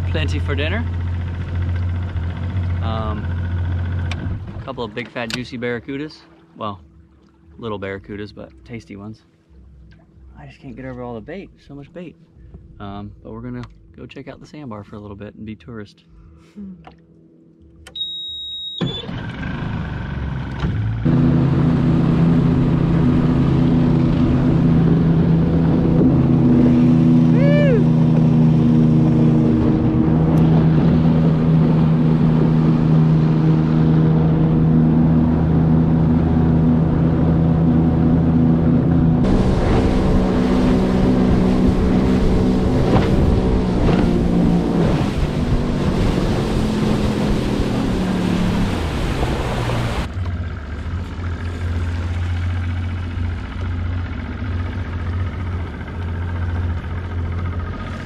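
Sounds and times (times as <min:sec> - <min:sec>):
outboard motor drone: 0:00.0 - 0:14.4, 0:16.1 - 0:58.0
wind: 0:00.0 - 0:58.0.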